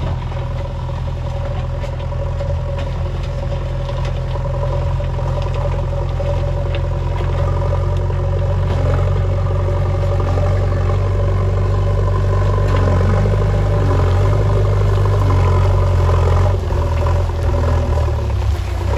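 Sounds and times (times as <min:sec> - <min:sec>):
diesel engine running: 0:00.0 - 0:18.9
rock and gravel clattering: 0:00.0 - 0:18.9.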